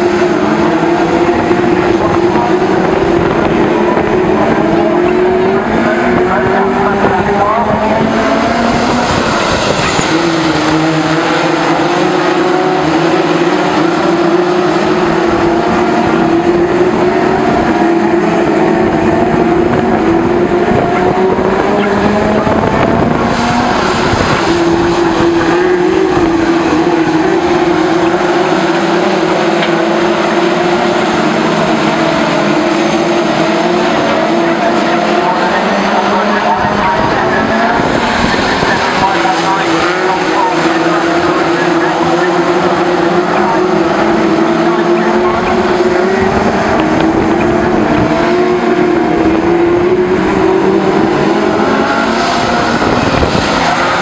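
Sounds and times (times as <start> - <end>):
stock car engines racing: 0.0 - 54.0.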